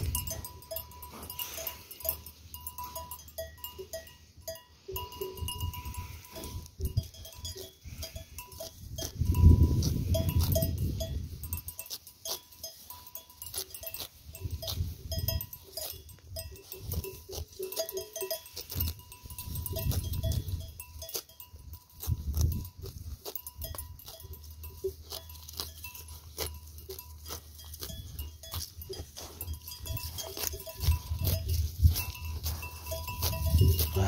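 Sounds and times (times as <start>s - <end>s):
sheep bells clinking: 0.0s - 34.0s
sheep tearing and chewing grass: 0.0s - 34.0s.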